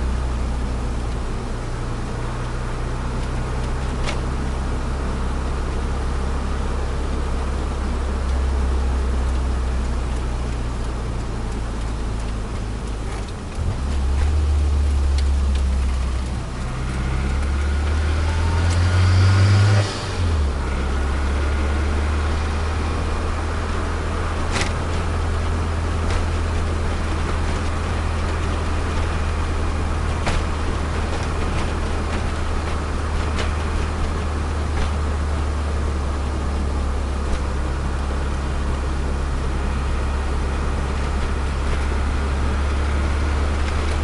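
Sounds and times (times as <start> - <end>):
car engine running: 0.0 - 44.0
road noise: 0.0 - 44.0.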